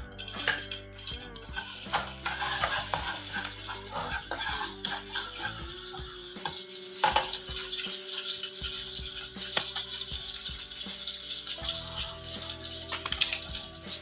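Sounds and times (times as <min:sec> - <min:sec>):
mushrooms sizzling in a wok: 0:00.0 - 0:14.0
metal ladle scraping a wok: 0:00.1 - 0:11.6.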